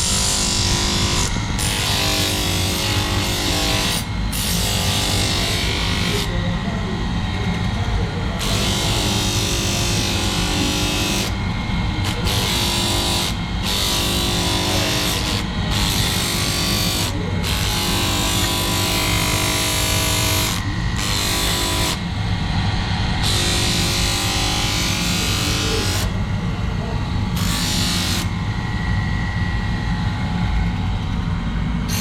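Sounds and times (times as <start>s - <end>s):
power tool grinding steel: 0.0s - 6.4s, 8.4s - 26.3s, 27.3s - 28.8s.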